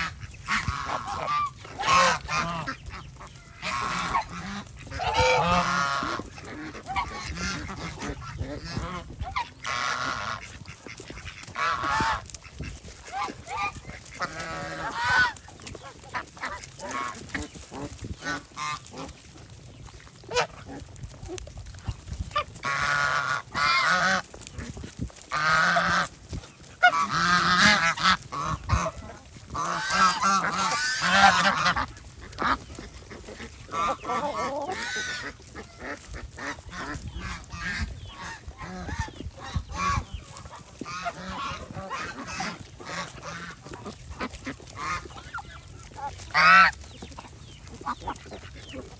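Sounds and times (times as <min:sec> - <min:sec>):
geese honking: 0:00.0 - 0:48.9.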